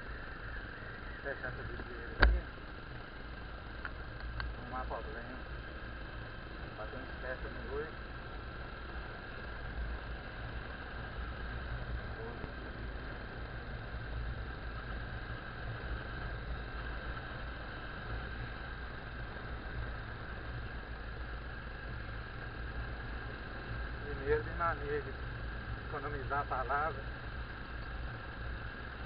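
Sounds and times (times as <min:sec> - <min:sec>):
motorcycle engine running: 0:00.0 - 0:29.0
wind and road noise: 0:00.0 - 0:29.0.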